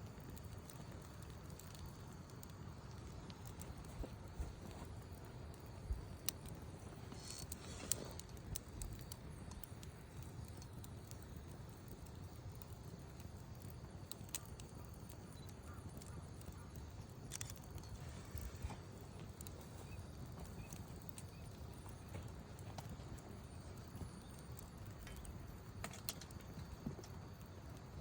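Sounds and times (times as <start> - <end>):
campfire crackling and popping: 0.0 - 28.0
fire low rumble: 0.0 - 28.0.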